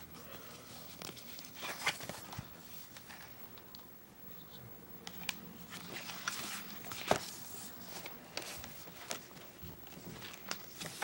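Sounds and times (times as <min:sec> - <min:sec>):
book pages rustling and turning: 0:00.4 - 0:03.4, 0:05.0 - 0:11.0.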